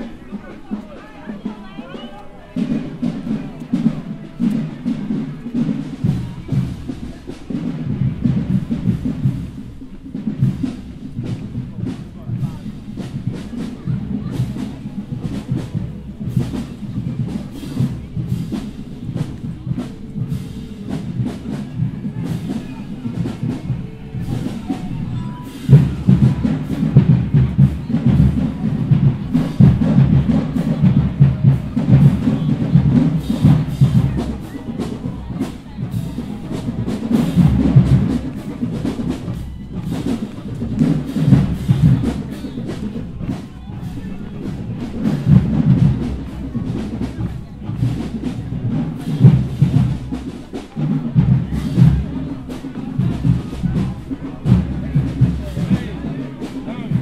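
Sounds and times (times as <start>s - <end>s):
drumline playing a cadence: 0.0s - 57.0s.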